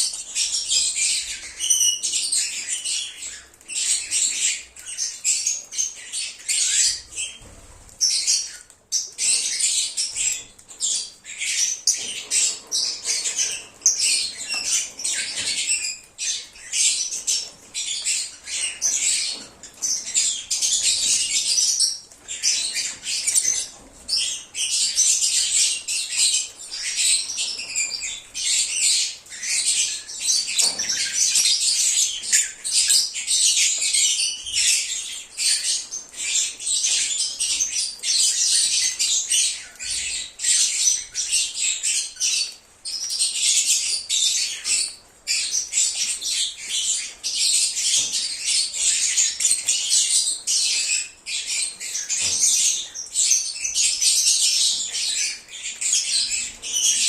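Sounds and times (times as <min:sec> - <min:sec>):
lovebirds chattering and chirping: 0:00.0 - 0:57.0.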